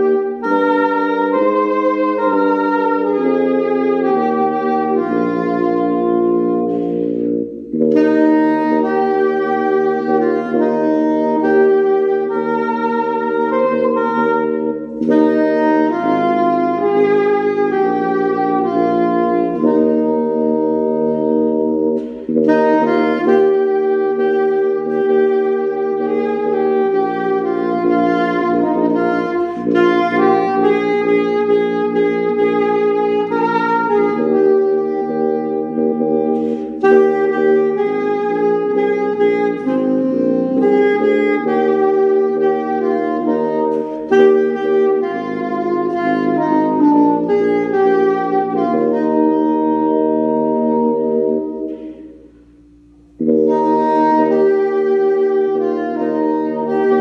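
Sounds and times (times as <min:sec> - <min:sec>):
soprano saxophone playing hymn: 0:00.0 - 0:57.0.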